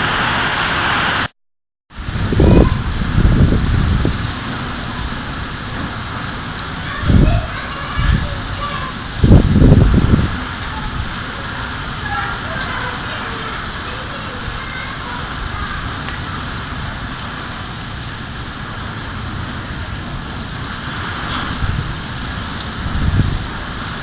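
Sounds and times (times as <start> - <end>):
heavy rain: 0.0 - 1.3, 1.9 - 24.0.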